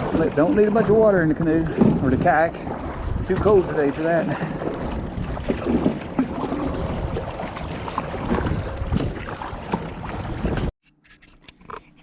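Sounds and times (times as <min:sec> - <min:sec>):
water slapping and splashing: 0:00.0 - 0:10.7
wind buffeting microphone: 0:00.0 - 0:10.7.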